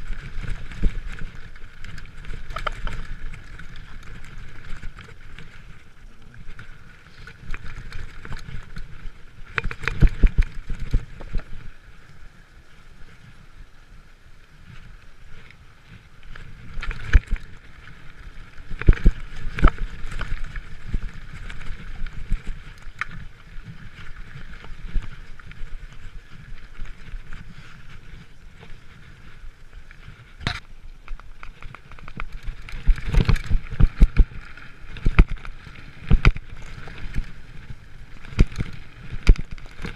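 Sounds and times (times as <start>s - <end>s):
bike knocking and rattling: 0.0s - 11.7s, 14.8s - 39.9s
tyres rolling on dirt trail: 0.0s - 39.9s.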